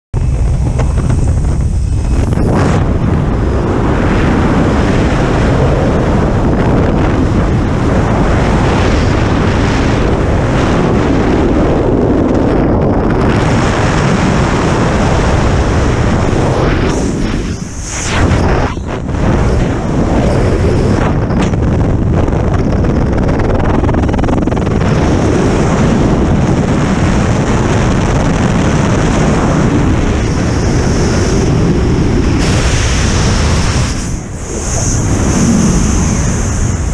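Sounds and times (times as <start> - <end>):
aircraft engine: 0.1 - 36.9
wind rushing over microphone: 0.1 - 36.9.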